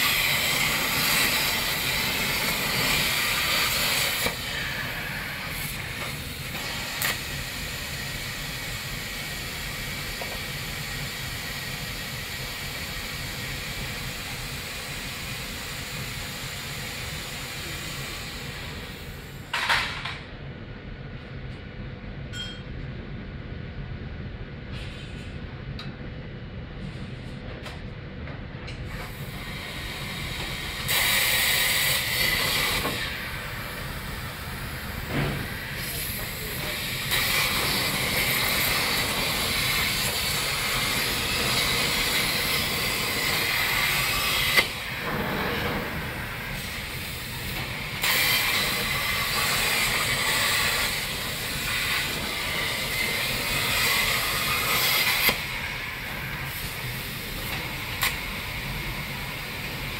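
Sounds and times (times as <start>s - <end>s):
plasma cutter hissing: 0.0s - 19.4s, 28.9s - 59.9s.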